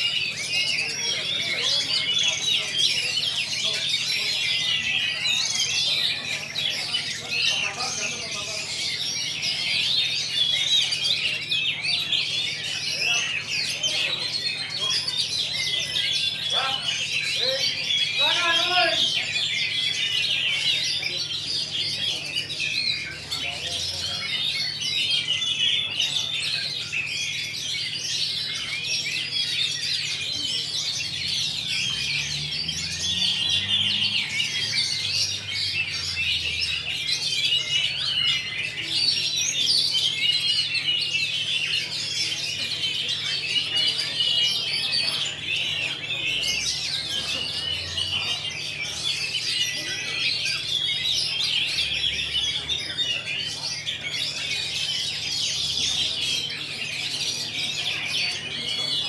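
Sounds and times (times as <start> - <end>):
caged songbirds singing: 0.0 - 59.0.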